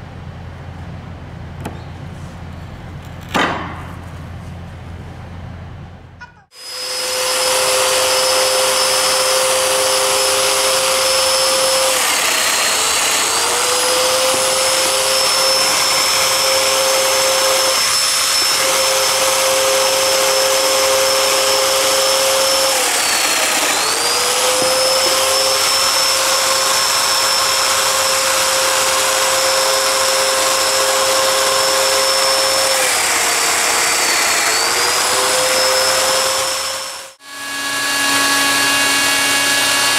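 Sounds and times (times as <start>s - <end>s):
joiner machine whining: 6.5s - 39.9s.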